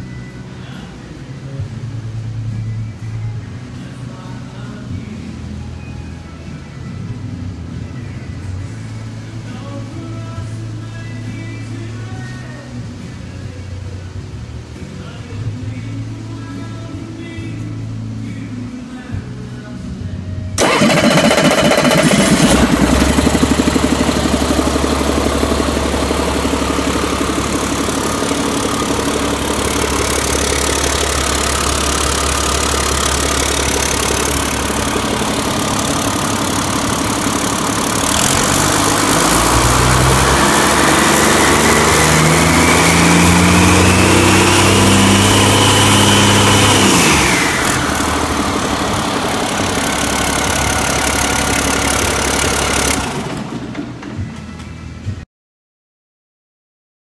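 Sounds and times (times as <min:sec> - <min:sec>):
diesel engine idling and revving: 0:00.0 - 0:55.2.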